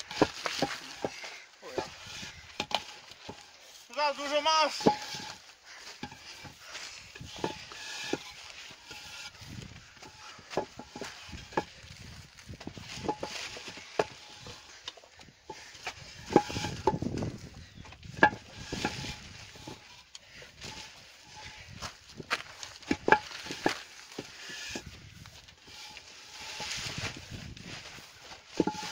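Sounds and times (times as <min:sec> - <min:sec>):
masonry blocks knocking and scraping: 0:00.0 - 0:28.9.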